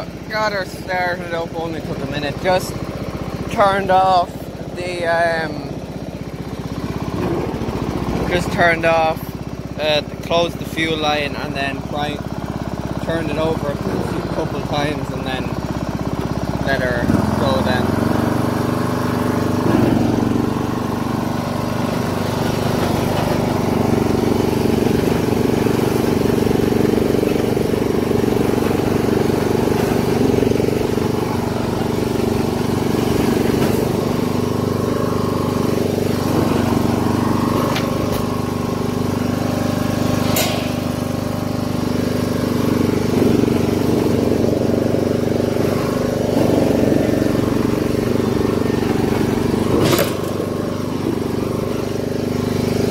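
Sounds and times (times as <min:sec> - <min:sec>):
ride-on lawn mower engine running: 0:00.0 - 0:52.9.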